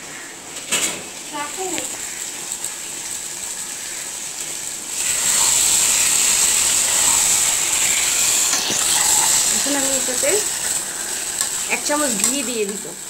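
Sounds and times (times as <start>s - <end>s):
curry simmering in a pan: 1.2s - 13.0s.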